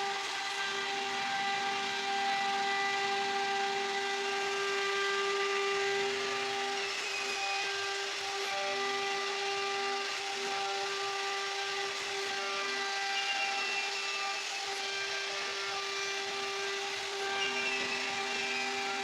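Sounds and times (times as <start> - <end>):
bit cutting wood: 0.0 - 19.0
router spindle whine: 0.0 - 19.0.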